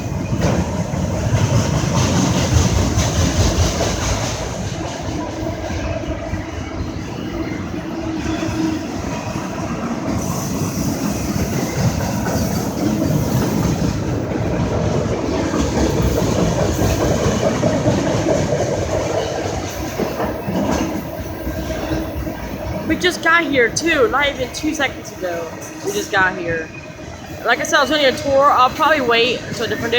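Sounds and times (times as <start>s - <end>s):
freight train rolling over rails: 0.0s - 29.9s.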